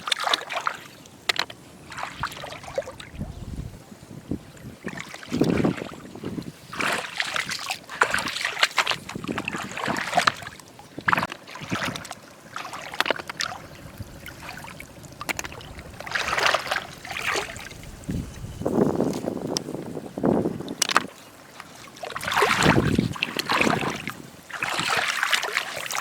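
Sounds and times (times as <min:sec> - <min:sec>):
shallow water splashing: 0:00.0 - 0:03.8, 0:04.6 - 0:26.0.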